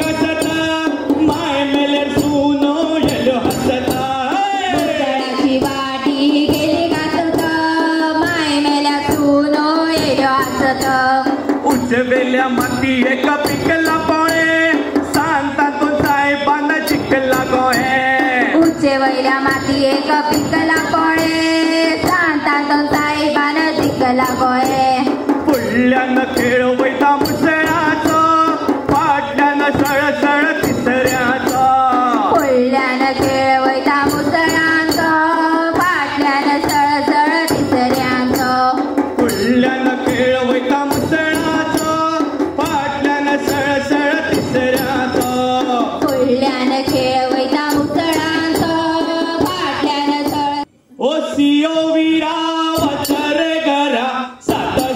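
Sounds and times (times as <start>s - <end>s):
drum beat: 0.0s - 50.6s, 54.5s - 54.9s
voices singing folk song: 0.0s - 54.9s.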